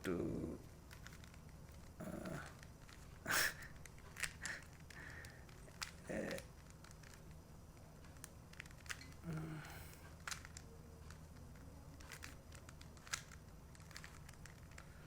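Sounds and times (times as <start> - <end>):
plastic cube clicks: 0.9 - 15.0.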